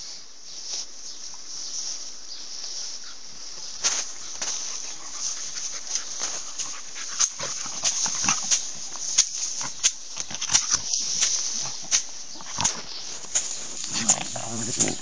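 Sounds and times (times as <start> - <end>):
dogs making sharp sounds at play: 2.9 - 15.0.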